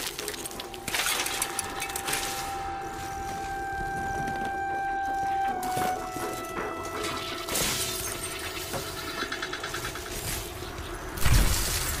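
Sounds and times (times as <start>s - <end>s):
electrical crackle and zaps: 0.0s - 12.0s.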